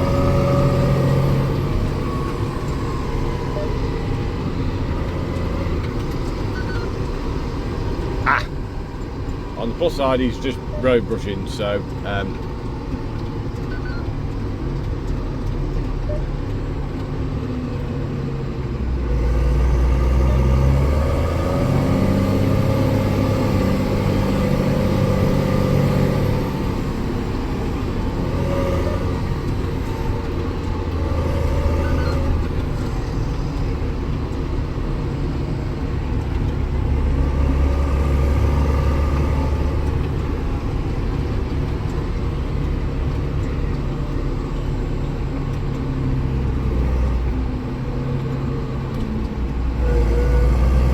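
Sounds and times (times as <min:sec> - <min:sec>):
tractor engine running under load: 0:00.0 - 0:50.9.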